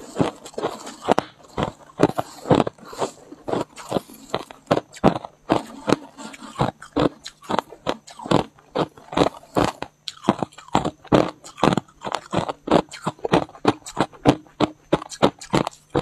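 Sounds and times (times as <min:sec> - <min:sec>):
ice crunched between teeth: 0:00.0 - 0:16.0.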